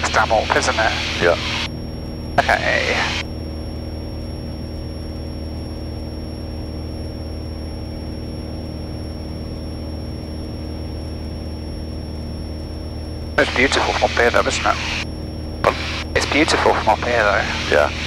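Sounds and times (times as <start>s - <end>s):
faint high-pitched whine: 0.0s - 18.0s
propeller plane engine droning: 0.0s - 18.0s.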